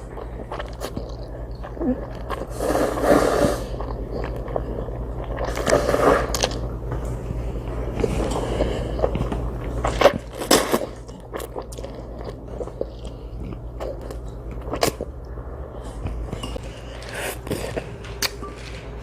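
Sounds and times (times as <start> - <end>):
chewing noodles: 0.0 - 6.6, 7.9 - 18.8.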